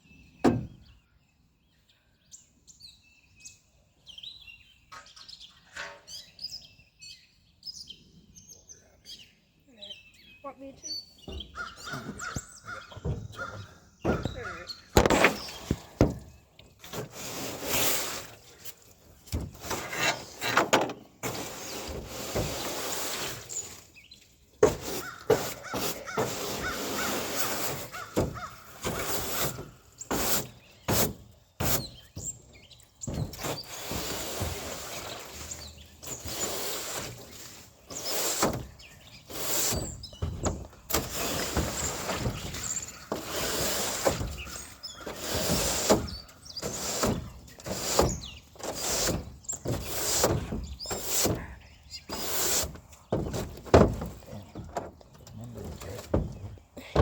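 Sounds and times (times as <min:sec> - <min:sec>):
rubbing and rustling: 0:11.3 - 0:57.0.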